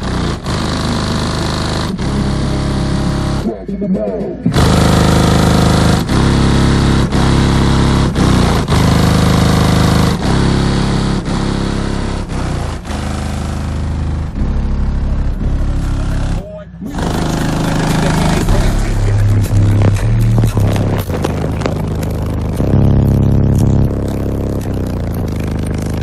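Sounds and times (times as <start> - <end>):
bass-heavy music through subwoofers: 0.0 - 26.0.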